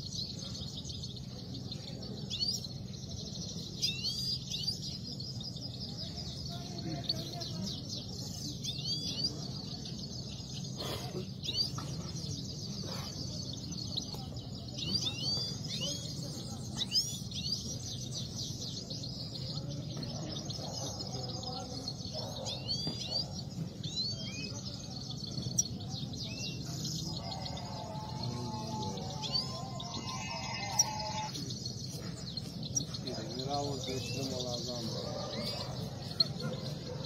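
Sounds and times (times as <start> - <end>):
finches twittering song: 0.0 - 37.0.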